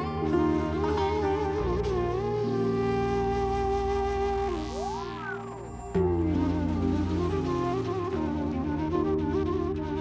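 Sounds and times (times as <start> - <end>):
background music with lead melody: 0.0 - 10.0.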